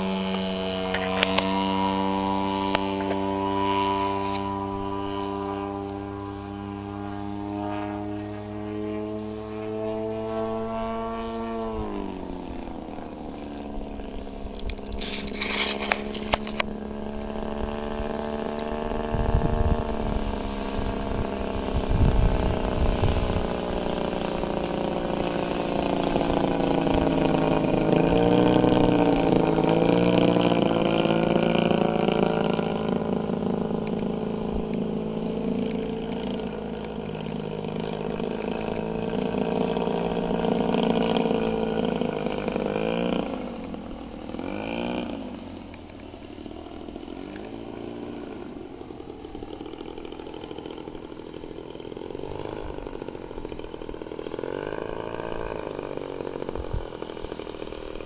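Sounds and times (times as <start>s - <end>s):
model plane engine: 0.0s - 58.0s.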